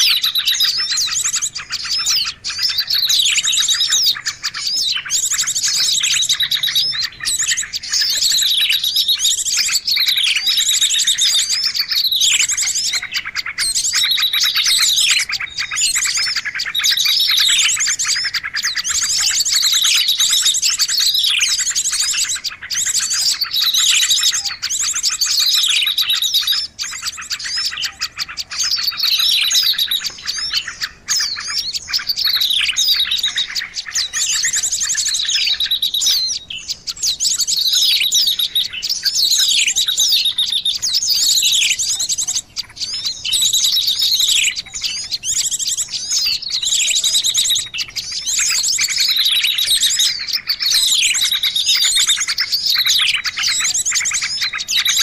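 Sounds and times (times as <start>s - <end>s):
recorded songbird call: 0.0s - 55.0s.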